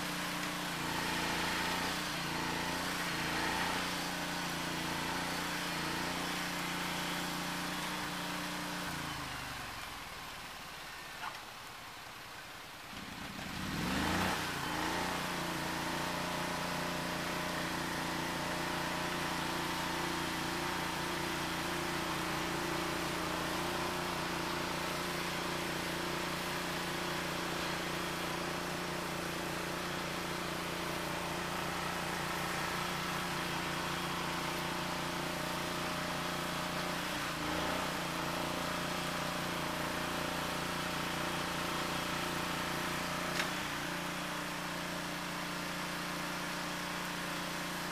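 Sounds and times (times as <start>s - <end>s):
snow blower engine running: 0.0s - 11.4s, 12.9s - 47.9s.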